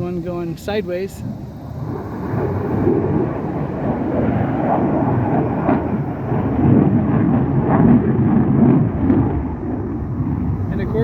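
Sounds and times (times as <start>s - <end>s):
military jet passing overhead: 0.0s - 11.0s.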